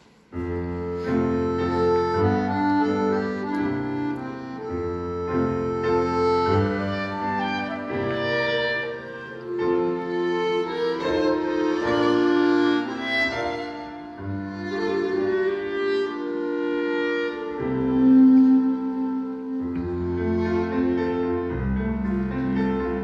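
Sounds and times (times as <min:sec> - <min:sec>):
piano: 0:00.0 - 0:23.0
violin and cello: 0:00.4 - 0:23.0.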